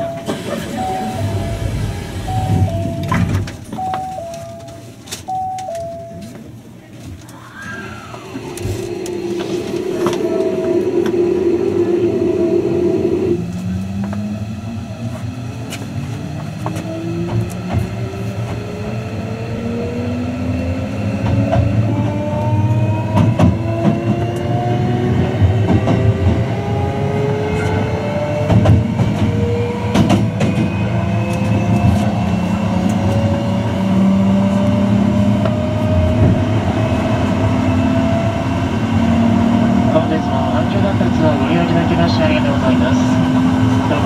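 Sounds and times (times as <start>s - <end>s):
electric train motor whine: 0.0s - 4.3s, 7.3s - 44.0s
train running rumble: 0.0s - 5.0s, 7.0s - 44.0s.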